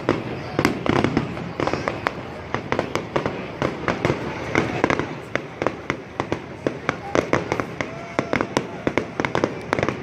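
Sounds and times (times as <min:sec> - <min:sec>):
fireworks bangs and crackles: 0:00.0 - 0:10.0
rumble of distant explosions: 0:00.0 - 0:10.0.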